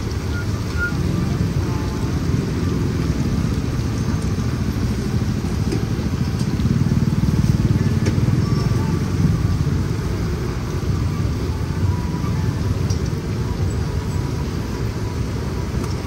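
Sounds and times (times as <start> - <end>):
motorcycle engine rumbling: 0.0 - 16.0
street noise: 0.0 - 16.0.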